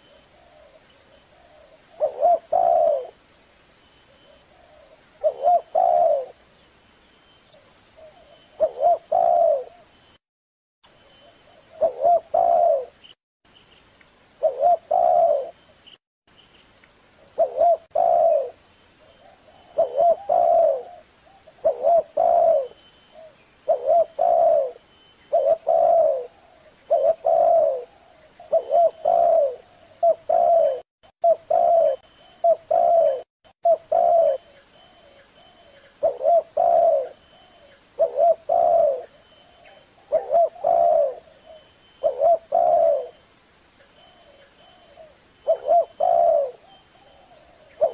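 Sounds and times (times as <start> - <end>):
dove cooing: 0.0 - 3.2, 4.3 - 6.4, 8.0 - 9.9, 11.5 - 13.0, 14.4 - 15.6, 17.4 - 18.6, 19.2 - 43.2, 44.1 - 47.9.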